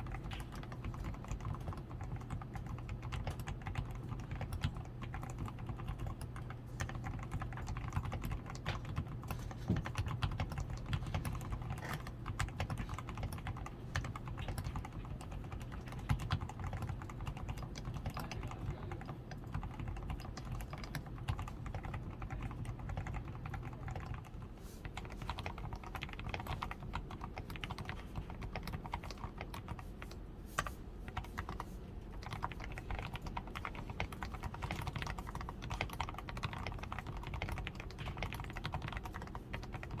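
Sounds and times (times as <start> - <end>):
mechanical keyboard typing: 0.0 - 40.0.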